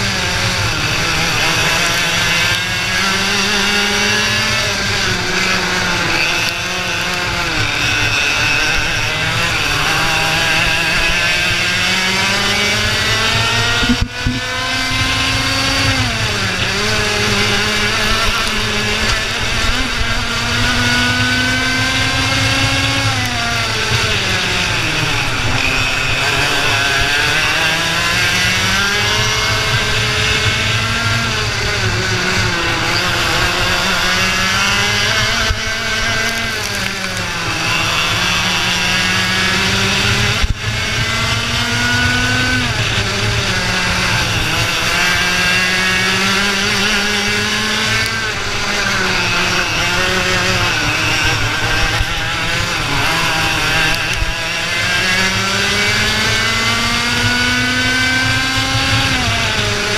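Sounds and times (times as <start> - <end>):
kart engine at racing speed: 0.0 - 59.9.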